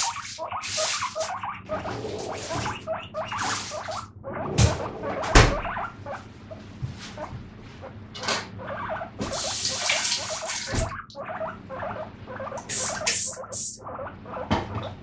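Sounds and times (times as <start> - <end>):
guinea pig squeaking: 0.0 - 15.0.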